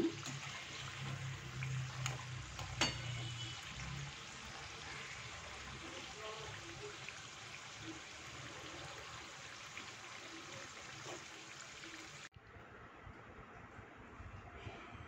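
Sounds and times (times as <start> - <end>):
faint sizzle of deep-frying: 0.0 - 12.3.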